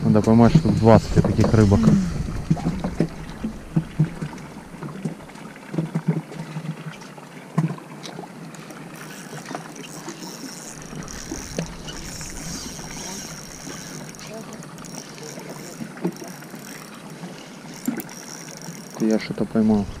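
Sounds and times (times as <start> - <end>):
hiss of water and wind: 0.0 - 20.0.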